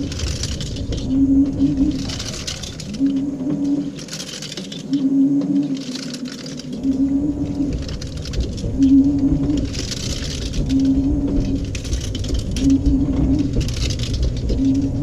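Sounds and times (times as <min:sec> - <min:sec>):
steady low rumble: 0:00.0 - 0:15.0
washing machine motor humming: 0:00.0 - 0:15.0.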